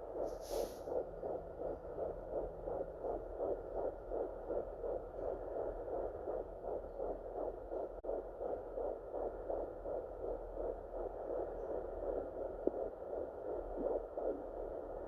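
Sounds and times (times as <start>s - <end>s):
fetal heartbeat whooshing pulse: 0.0s - 15.0s.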